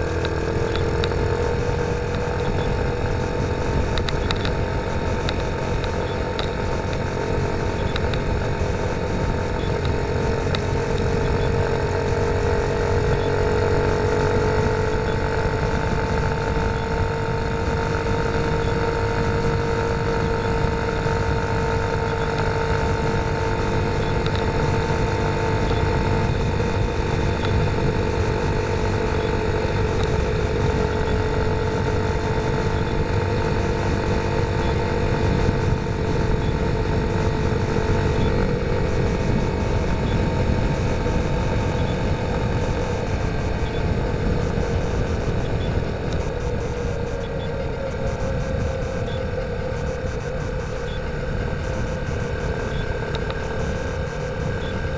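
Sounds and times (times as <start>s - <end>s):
motorcycle engine cruising: 0.0s - 54.9s
rushing wind noise: 0.0s - 54.9s.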